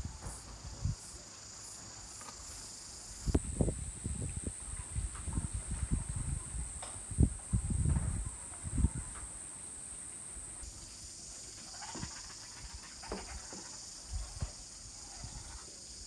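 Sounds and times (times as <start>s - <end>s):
insects droning: 0.0s - 16.0s
lower insect drone: 0.0s - 16.0s.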